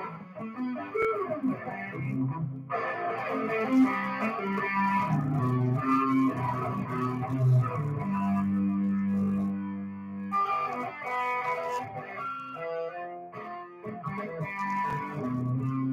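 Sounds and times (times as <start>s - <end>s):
electric guitar with effects: 0.0s - 15.9s.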